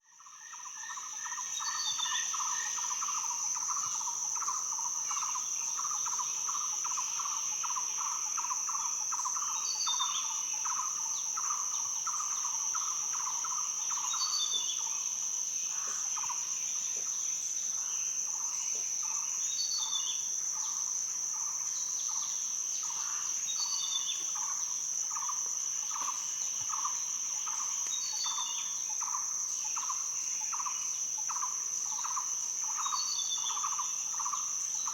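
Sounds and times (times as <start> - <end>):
high-pitched insect trill: 0.1 - 34.9.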